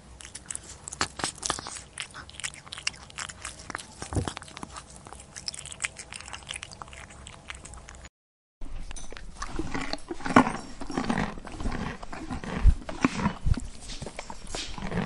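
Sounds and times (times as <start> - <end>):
crunchy chewing and biting: 0.0 - 8.1, 9.1 - 15.0.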